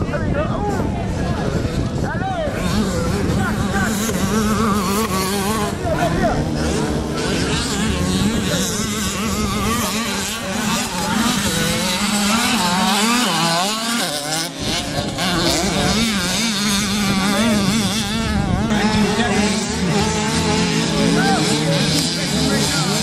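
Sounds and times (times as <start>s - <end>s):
two-stroke motocross bikes revving: 0.0s - 23.0s.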